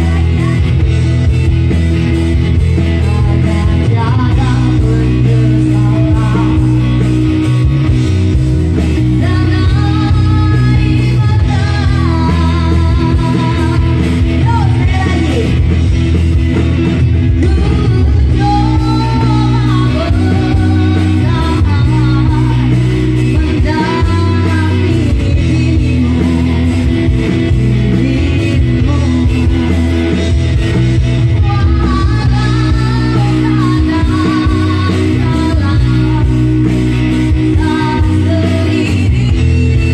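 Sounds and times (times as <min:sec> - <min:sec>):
woman singing: 0:00.0 - 0:01.4, 0:02.6 - 0:07.9, 0:09.0 - 0:16.0, 0:17.2 - 0:39.9
live rock-pop band playing: 0:00.0 - 0:39.9.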